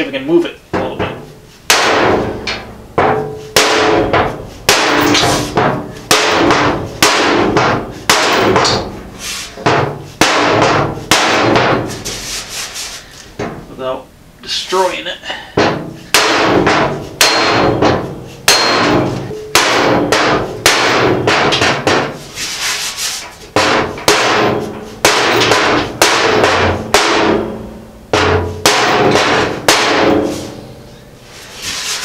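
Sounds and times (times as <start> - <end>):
mallet striking sheet metal: 0.7 - 12.3, 15.6 - 30.8.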